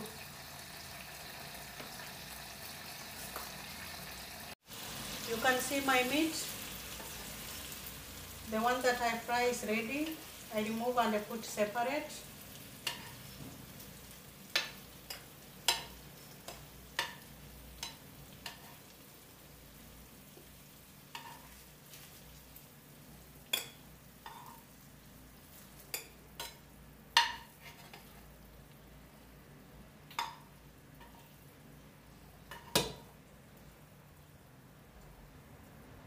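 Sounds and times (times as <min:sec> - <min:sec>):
meatballs sizzling in oil: 0:00.0 - 0:34.3.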